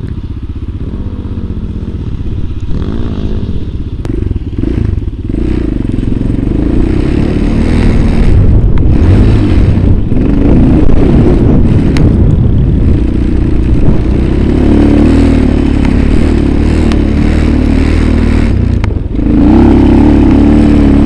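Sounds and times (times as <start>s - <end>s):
small engine running hard: 0.0s - 21.0s.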